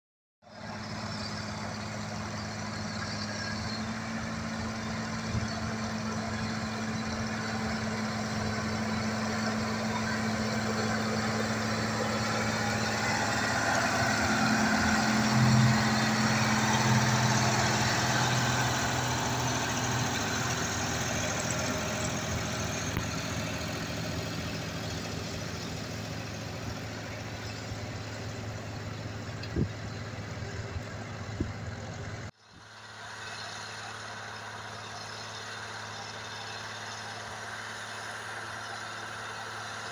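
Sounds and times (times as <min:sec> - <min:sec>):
tractor diesel engine running: 0:00.4 - 0:39.9.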